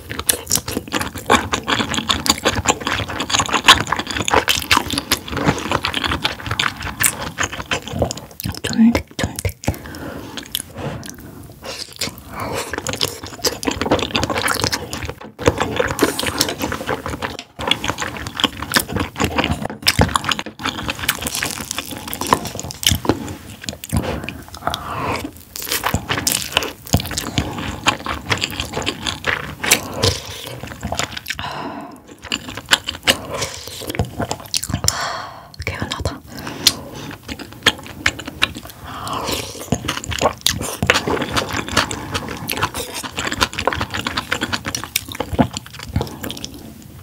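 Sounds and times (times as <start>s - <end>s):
wet chewing and biting: 0.0s - 47.0s.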